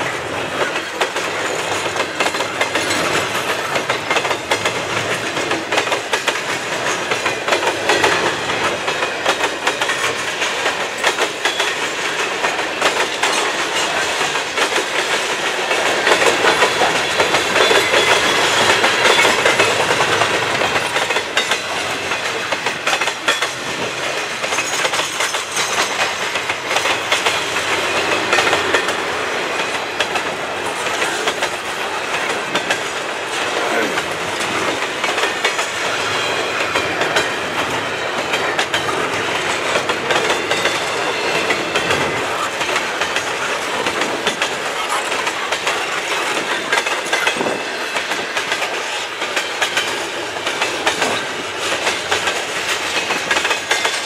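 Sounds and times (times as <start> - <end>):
freight train rumbling past: 0.0 - 54.0
steel wheels clicking on track: 0.0 - 54.0.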